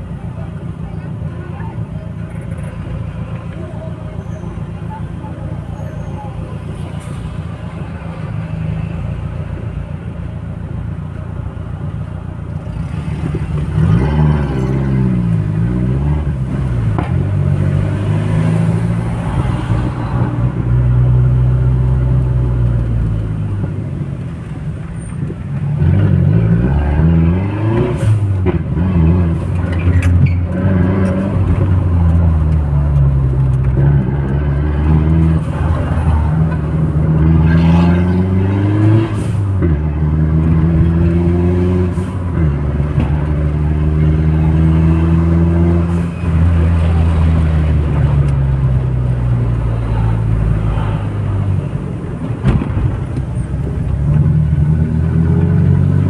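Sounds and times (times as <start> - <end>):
car engine accelerating: 6.9 - 56.0.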